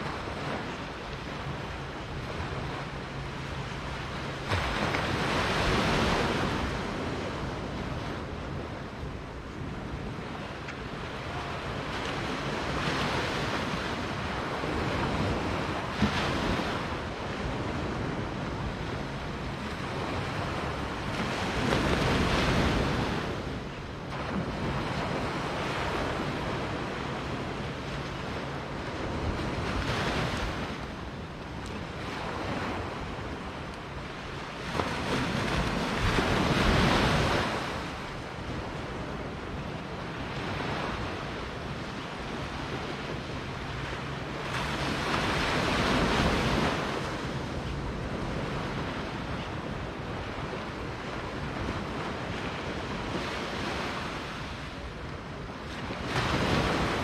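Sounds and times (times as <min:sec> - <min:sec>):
small waves breaking on beach: 0:00.0 - 0:57.0.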